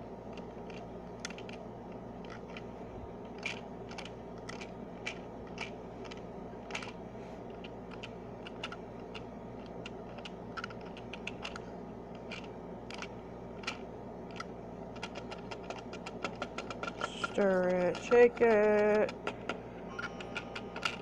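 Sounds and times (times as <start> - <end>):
toy crank plastic clicking: 0.3 - 1.6, 3.3 - 7.0, 7.6 - 21.0.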